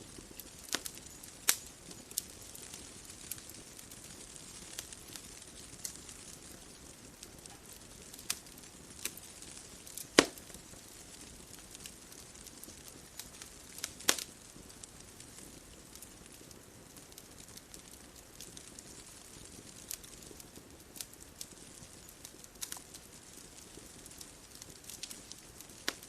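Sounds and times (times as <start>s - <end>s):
soft steady hiss: 0.0s - 26.0s
wood fire crackling and popping: 0.0s - 26.0s.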